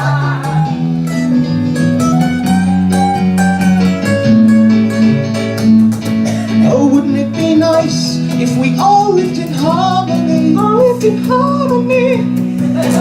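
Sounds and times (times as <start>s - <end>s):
guitar strumming chords: 0.0s - 13.0s.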